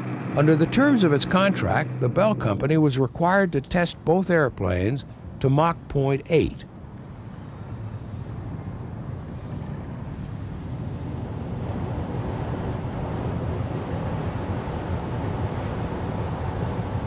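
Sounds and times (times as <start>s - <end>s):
aircraft low rumble: 0.0s - 17.0s
high wavering whine: 0.0s - 17.0s.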